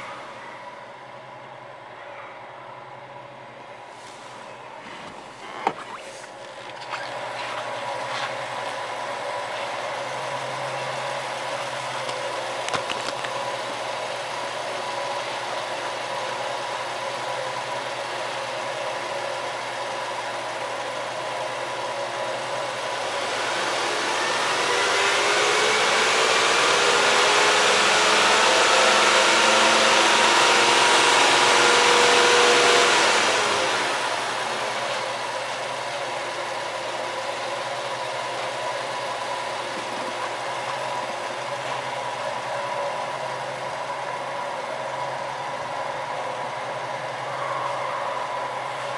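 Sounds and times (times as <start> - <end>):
car engine idling and revving: 5.1 - 48.9.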